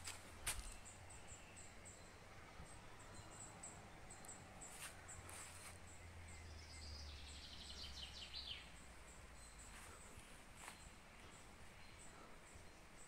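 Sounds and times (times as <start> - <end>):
songbird trill: 0.0 - 13.0.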